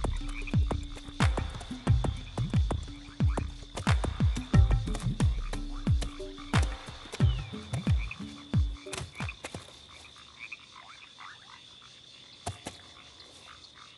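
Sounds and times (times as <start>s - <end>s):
frogs croaking: 0.0s - 13.9s.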